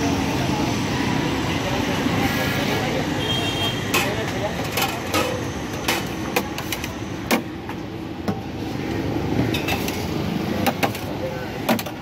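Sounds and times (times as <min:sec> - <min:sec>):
roadside traffic: 0:00.0 - 0:12.0.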